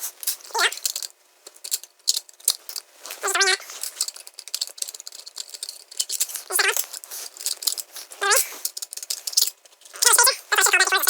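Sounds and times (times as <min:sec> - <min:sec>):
small metal parts clicking and rattling: 0:00.0 - 0:11.0.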